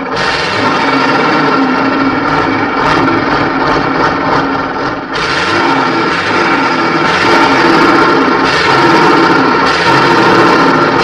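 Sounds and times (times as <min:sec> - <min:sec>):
diesel engine running loudly: 0:00.0 - 0:11.0.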